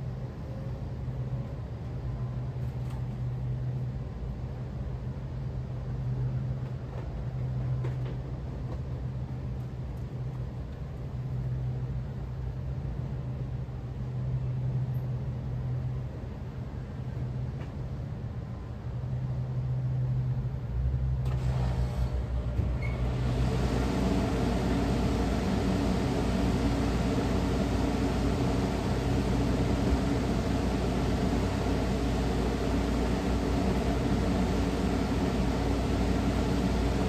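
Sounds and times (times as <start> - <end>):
air conditioner humming: 0.0 - 37.0.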